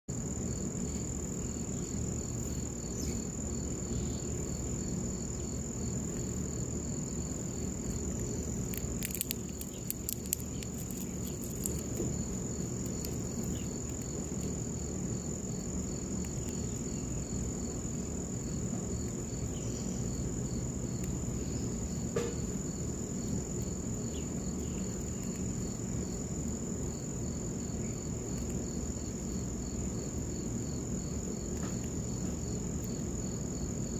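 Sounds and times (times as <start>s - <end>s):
insects trilling: 0.1s - 33.9s
low outdoor hum: 0.1s - 33.9s
soft repeating insect chirp: 0.1s - 33.9s.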